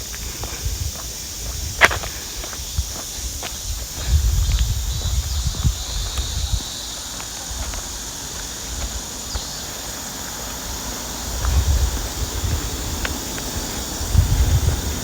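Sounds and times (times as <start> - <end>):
footsteps on outdoor path: 0.0 - 15.0
outdoor ambience hiss: 0.0 - 15.0.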